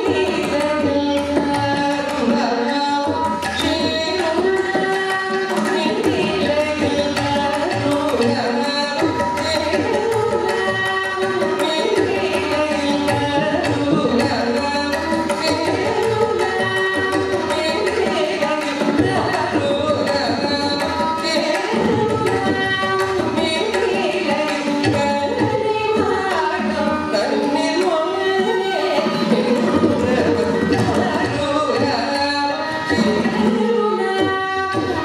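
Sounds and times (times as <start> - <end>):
violin: 0.0 - 35.0
woman singing: 0.0 - 35.0.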